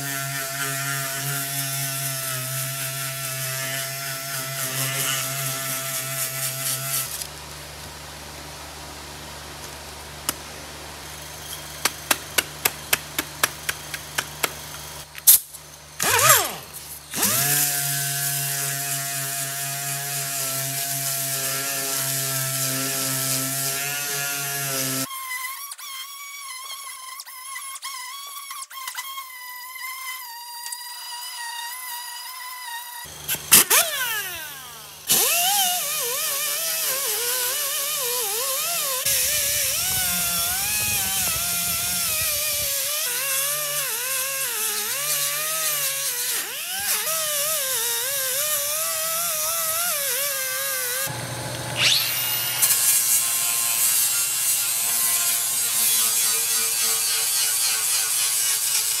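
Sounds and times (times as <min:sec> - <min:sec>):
angle grinder grinding metal: 0:00.0 - 0:07.3, 0:16.0 - 0:59.0
air sander and grinder whining: 0:00.0 - 0:25.1, 0:33.0 - 0:59.0.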